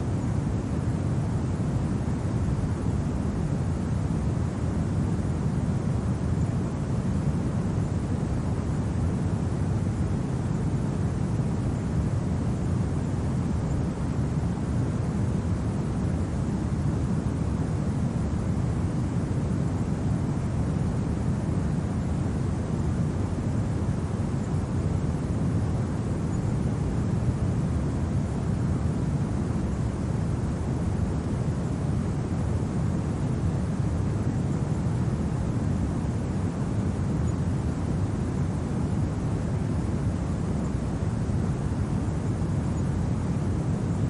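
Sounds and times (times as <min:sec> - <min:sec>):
low wind blowing: 0:00.0 - 0:44.0.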